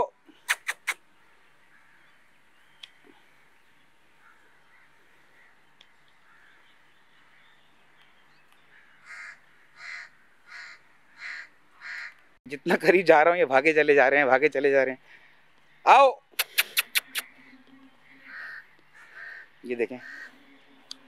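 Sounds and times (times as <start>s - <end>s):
bird calling: 0.0s - 12.4s, 15.6s - 21.0s
faint open-air background: 0.0s - 21.0s.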